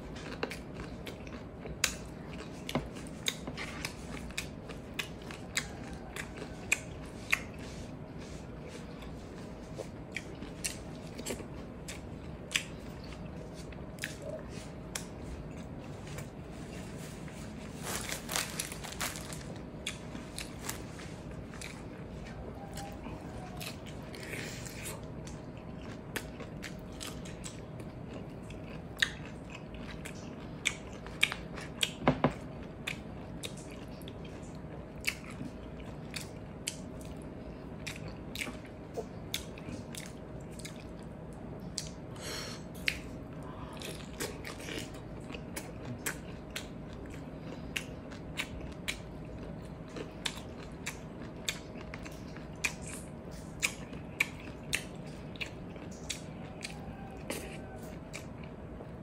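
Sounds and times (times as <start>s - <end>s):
faint steady hum: 0.0s - 59.0s
person chewing food: 0.0s - 59.0s.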